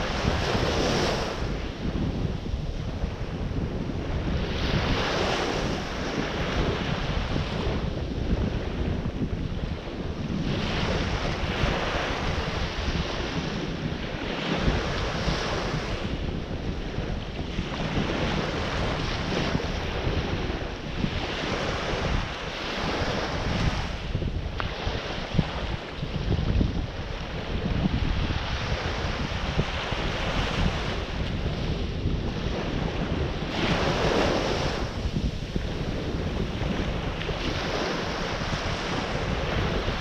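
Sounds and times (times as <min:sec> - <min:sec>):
ocean surf breaking: 0:00.0 - 0:40.0
wind buffeting microphone: 0:00.0 - 0:40.0.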